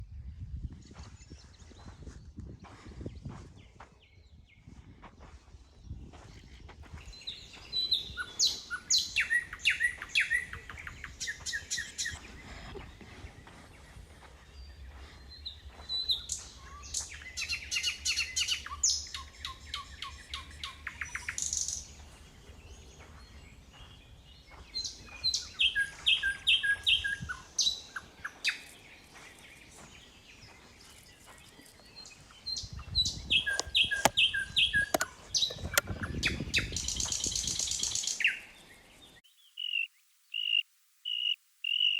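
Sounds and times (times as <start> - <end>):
songbirds chirping: 0.6 - 41.9.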